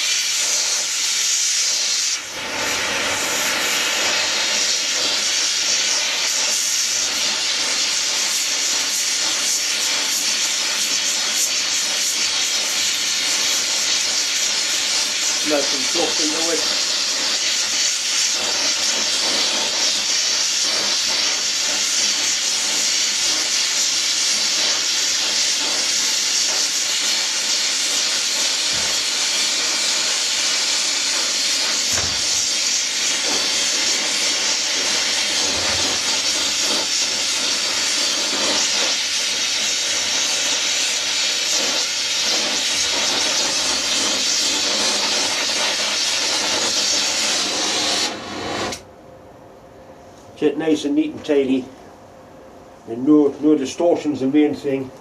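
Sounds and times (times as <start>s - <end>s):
gas torch flame hissing: 0.0s - 48.9s.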